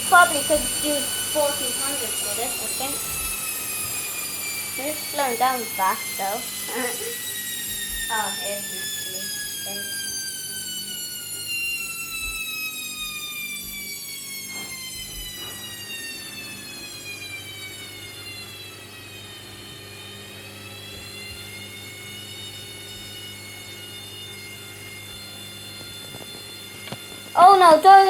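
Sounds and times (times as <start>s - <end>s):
washing machine drum motor whining: 0.0s - 28.0s.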